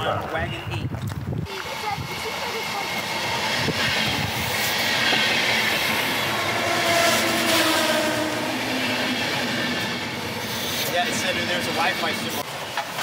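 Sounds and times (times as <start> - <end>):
train rumble: 0.0 - 13.0
high whine from train: 1.1 - 13.0.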